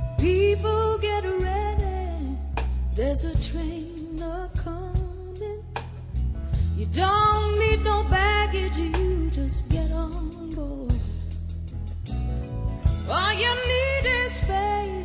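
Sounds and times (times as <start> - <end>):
soul song with bass and drums: 0.0 - 15.0.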